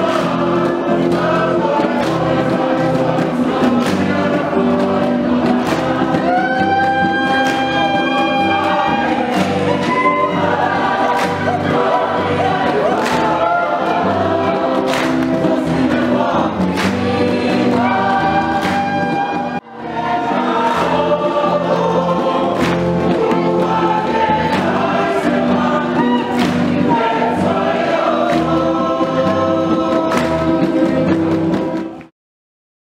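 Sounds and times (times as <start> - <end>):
sharp percussive beats: 0.0 - 32.0
group singing in harmony: 0.0 - 32.1.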